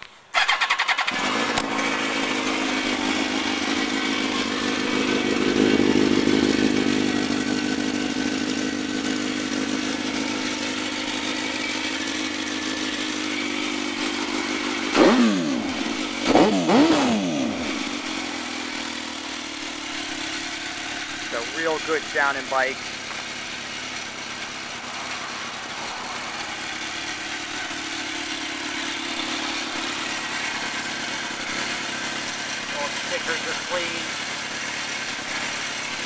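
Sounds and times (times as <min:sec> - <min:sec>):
motorcycle engine idling: 0:00.1 - 0:36.0
motorcycle engine revving: 0:00.3 - 0:36.0.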